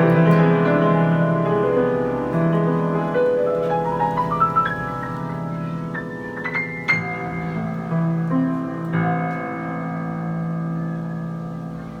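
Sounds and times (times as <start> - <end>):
grand piano playing: 0.0 - 12.0.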